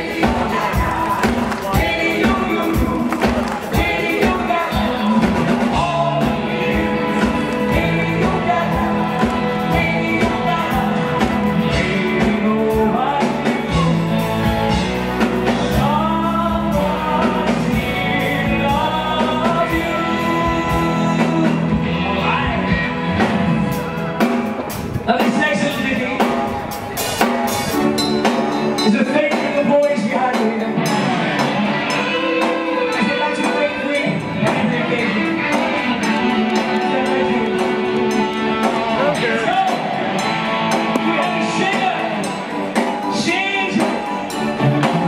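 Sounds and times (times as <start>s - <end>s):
man singing lead vocals: 0.0s - 24.3s, 27.7s - 45.0s
bass guitar: 0.0s - 45.0s
drum kit: 0.0s - 45.0s
electric guitar: 0.0s - 45.0s
keyboards: 0.0s - 45.0s.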